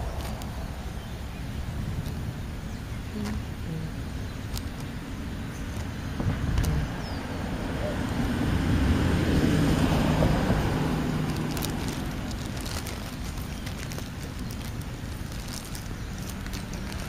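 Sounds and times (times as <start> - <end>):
vehicle passing rumble: 0.0 - 17.0.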